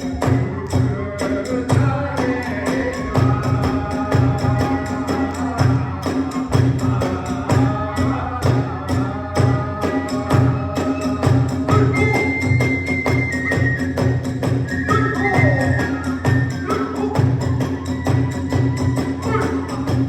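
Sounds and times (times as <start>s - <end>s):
bamboo flute: 0.0s - 20.0s
hand cymbals clashing: 0.0s - 20.0s
large drum beats: 0.0s - 20.0s.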